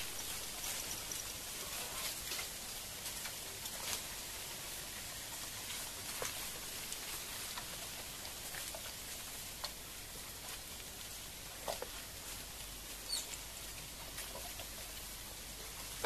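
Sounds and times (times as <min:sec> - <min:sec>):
bamboo stem tapping and rustling: 0:00.0 - 0:16.0
steady outdoor hiss: 0:00.0 - 0:16.0.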